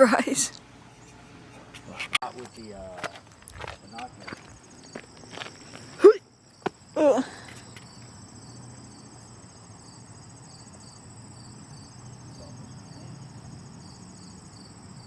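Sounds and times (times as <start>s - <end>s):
insects trilling: 1.8s - 15.0s.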